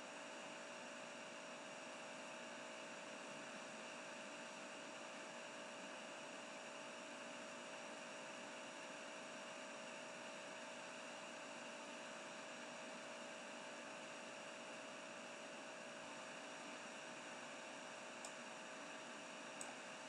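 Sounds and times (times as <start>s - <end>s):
thin steady hum: 2.4s - 20.0s.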